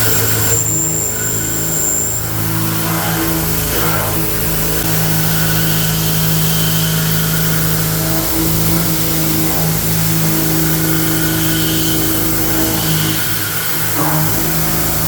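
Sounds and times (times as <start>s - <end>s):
cnc machine milling steel: 0.0s - 15.0s.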